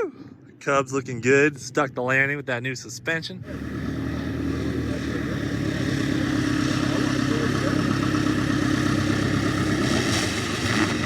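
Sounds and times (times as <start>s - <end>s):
light aircraft engine humming: 0.0s - 11.0s.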